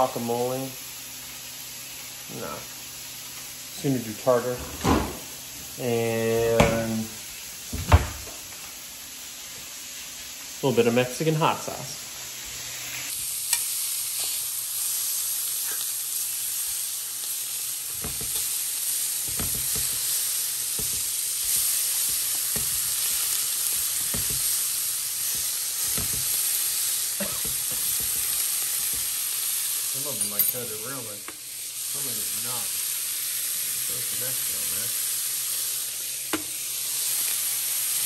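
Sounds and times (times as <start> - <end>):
fish frying in hot oil: 0.0 - 4.3, 8.9 - 30.2, 30.9 - 38.0.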